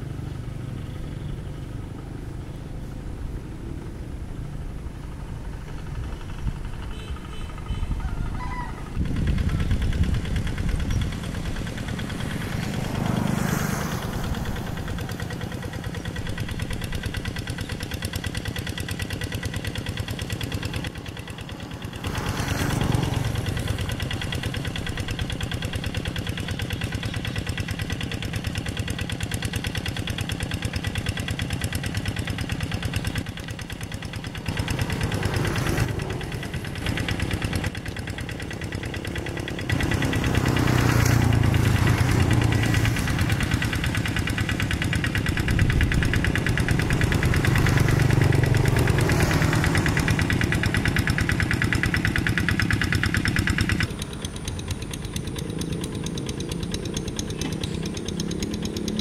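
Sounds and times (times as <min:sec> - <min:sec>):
diesel hand tractor knocking: 0:08.8 - 0:13.4, 0:14.0 - 0:59.0.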